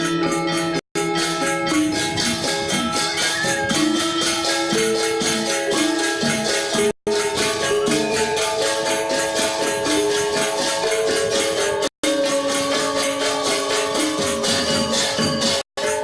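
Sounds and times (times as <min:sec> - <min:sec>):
jingling metal percussion: 0:00.0 - 0:16.0
ringing metallophone notes: 0:00.0 - 0:16.0.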